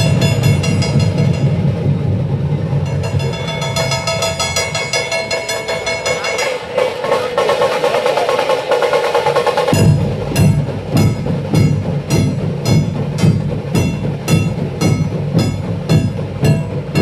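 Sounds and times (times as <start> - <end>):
fast drum roll: 0.0 - 17.0
heavy low drum beats: 0.0 - 17.0
sharp high drum strokes: 0.0 - 17.0.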